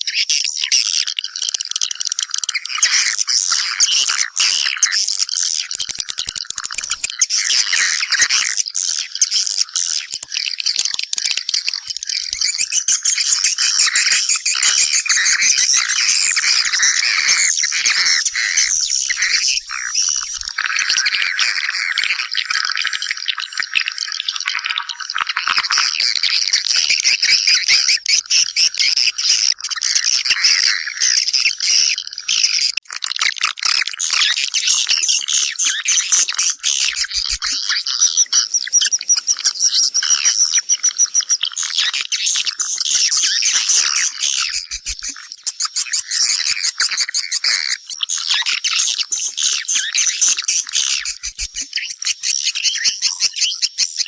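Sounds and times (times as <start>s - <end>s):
swiftlets chirping chorus: 0.4s - 32.8s, 33.5s - 52.5s.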